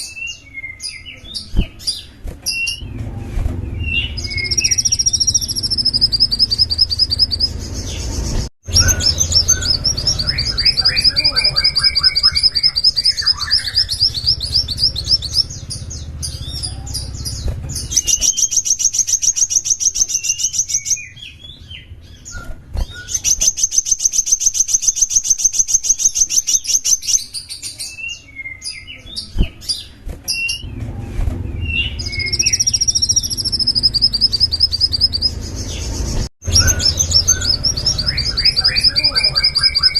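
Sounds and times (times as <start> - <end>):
bird chirps: 3.6 - 39.9
songbird trilling: 3.8 - 27.5, 31.6 - 39.9.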